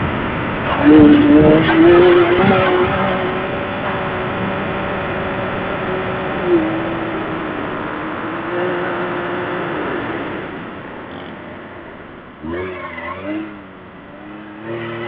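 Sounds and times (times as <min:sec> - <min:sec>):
rushing noise: 0:00.0 - 0:15.0
vehicle engine droning under load: 0:00.0 - 0:15.0.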